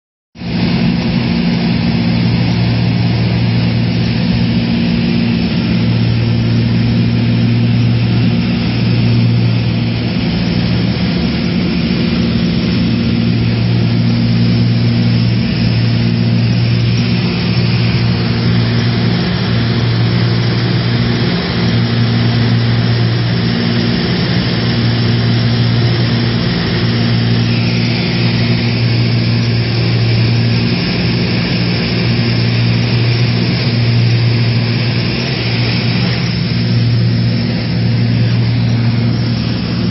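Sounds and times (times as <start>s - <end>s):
constant rushing noise: 0.4s - 39.9s
propeller airplane engines humming: 0.4s - 39.9s.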